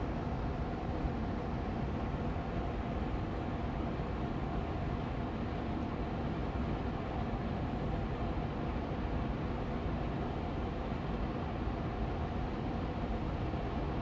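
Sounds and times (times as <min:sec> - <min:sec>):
air purifier fan running: 0:00.0 - 0:14.0.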